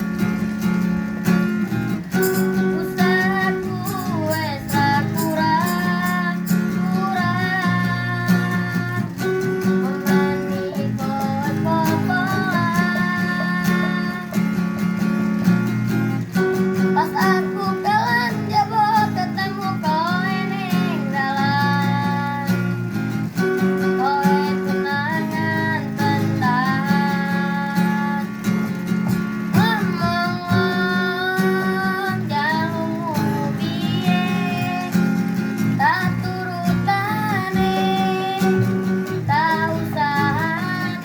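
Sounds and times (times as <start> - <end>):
strummed acoustic guitar: 0.0 - 41.0
child singing: 2.2 - 14.6, 16.7 - 22.8, 23.6 - 28.4, 29.5 - 41.0.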